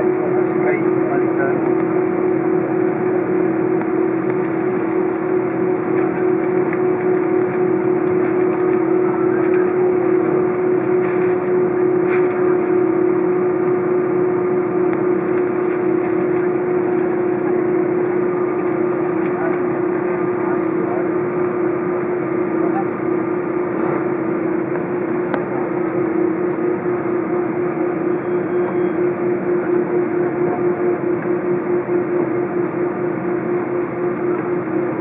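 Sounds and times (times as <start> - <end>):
jet engine hum in cabin: 0.0 - 35.0.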